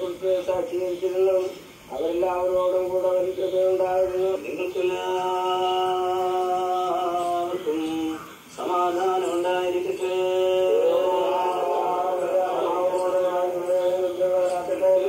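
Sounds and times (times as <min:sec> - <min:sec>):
priest chanting prayer: 0:00.0 - 0:15.0.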